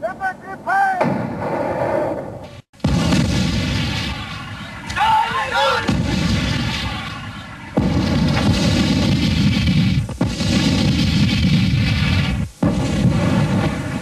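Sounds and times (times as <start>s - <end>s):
artillery guns firing: 2.8s - 14.0s.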